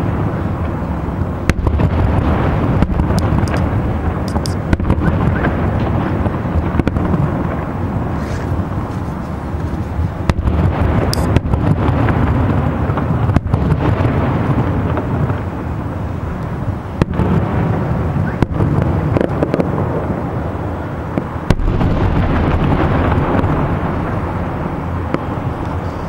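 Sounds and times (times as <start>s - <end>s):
fireworks booming and crackling: 0.0s - 26.0s
sharp firework bangs: 0.0s - 26.0s.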